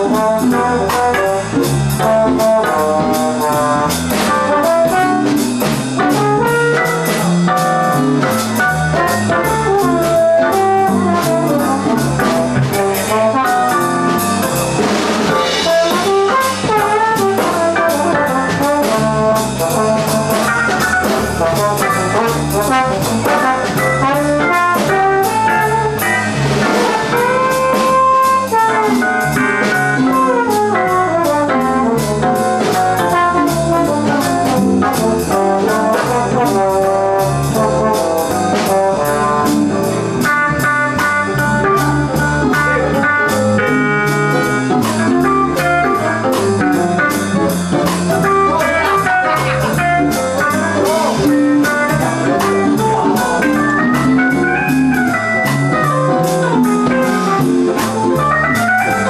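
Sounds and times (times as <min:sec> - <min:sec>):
brass horn melody: 0:00.0 - 0:59.0
jazz combo playing swing: 0:00.0 - 0:59.0.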